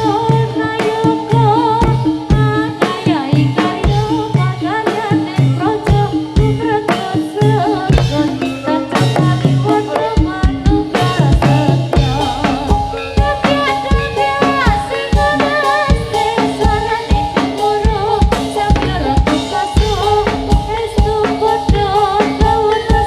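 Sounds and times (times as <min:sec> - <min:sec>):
drum strikes: 0:00.0 - 0:23.0
wavering sliding melody: 0:00.0 - 0:23.0.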